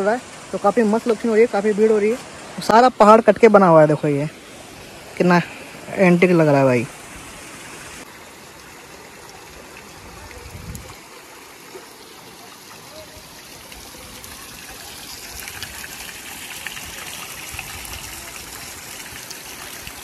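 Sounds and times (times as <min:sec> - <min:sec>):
water trickling over rocks: 0:00.0 - 0:20.0.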